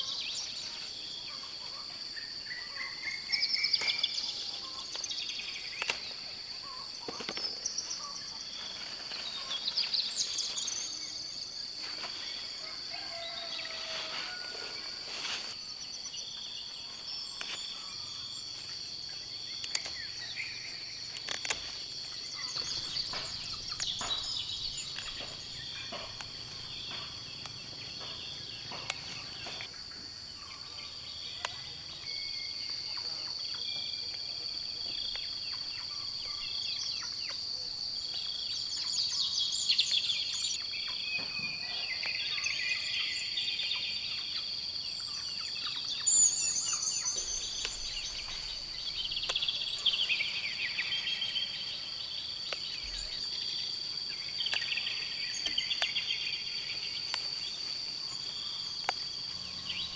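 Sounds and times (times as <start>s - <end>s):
birds chirping: 0.0s - 33.1s, 42.0s - 59.9s
insects trilling: 0.0s - 59.9s.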